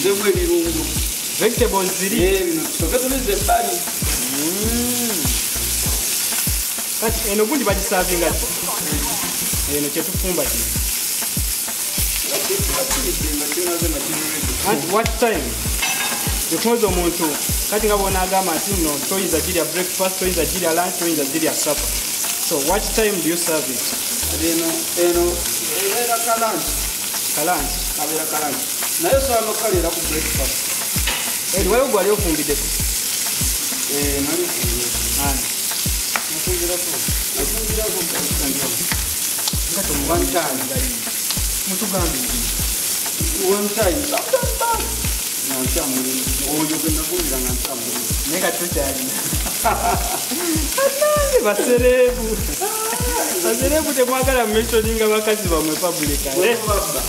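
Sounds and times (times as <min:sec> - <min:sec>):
chicken sizzling in hot oil: 0:00.0 - 0:57.0.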